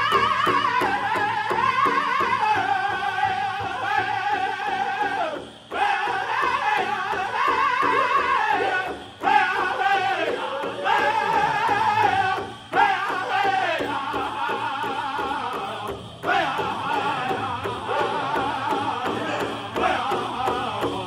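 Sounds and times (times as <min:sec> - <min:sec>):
large drum beating: 0:00.0 - 0:21.0
men singing together: 0:00.0 - 0:21.0.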